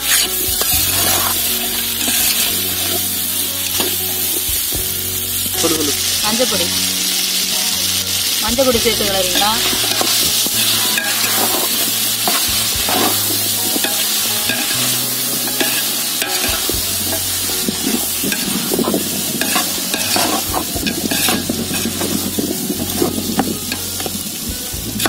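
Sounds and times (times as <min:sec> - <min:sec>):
metal ladle scraping pot: 0:00.0 - 0:04.5, 0:07.0 - 0:25.0
vegetables frying in oil: 0:00.0 - 0:25.0.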